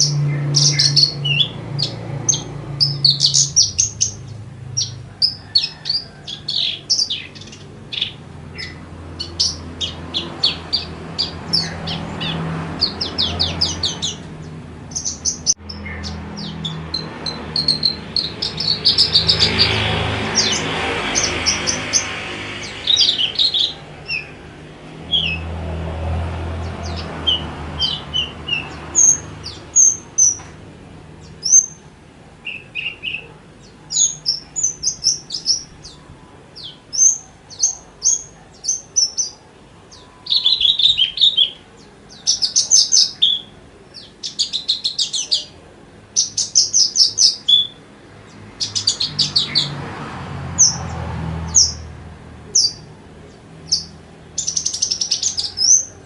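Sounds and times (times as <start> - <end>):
lark chirping and trilling: 0.0 - 25.5, 26.6 - 49.8, 50.5 - 51.9, 52.5 - 56.0.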